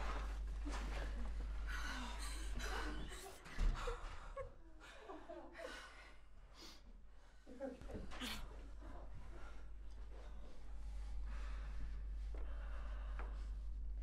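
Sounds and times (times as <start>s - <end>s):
low hum: 0.0s - 7.5s, 8.5s - 14.0s.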